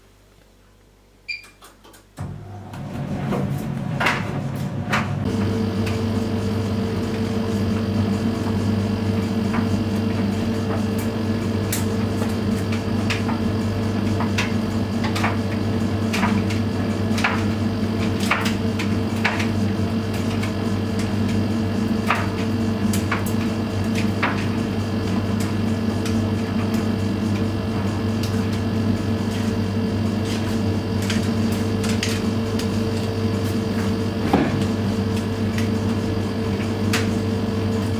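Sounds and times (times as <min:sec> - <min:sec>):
washing machine motor hum: 0:01.3 - 0:37.9.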